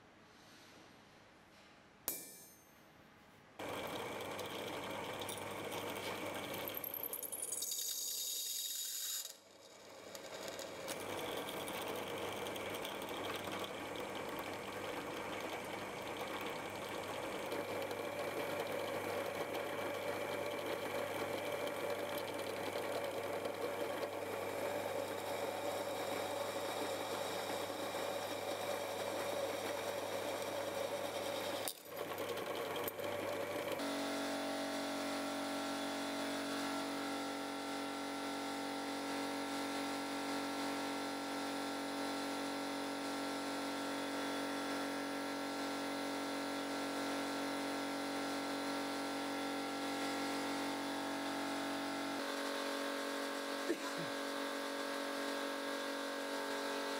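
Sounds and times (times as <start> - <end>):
vacuum pump drone: 3.6 - 7.3, 9.4 - 56.9.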